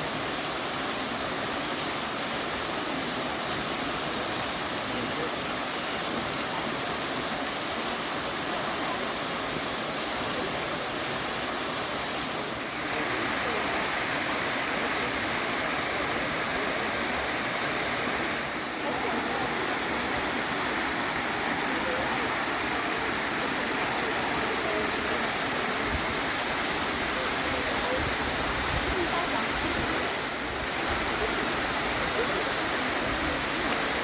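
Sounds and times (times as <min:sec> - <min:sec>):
mountain stream rushing: 0:00.0 - 0:34.0.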